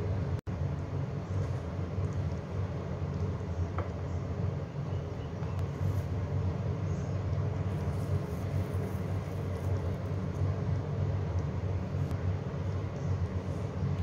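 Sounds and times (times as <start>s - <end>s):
kitchen background rumble: 0.0s - 14.0s.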